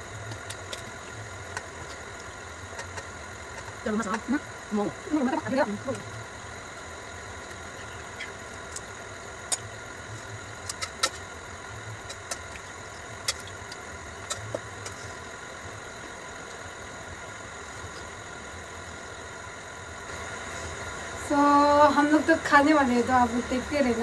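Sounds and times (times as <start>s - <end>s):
background hum: 0.0s - 24.0s.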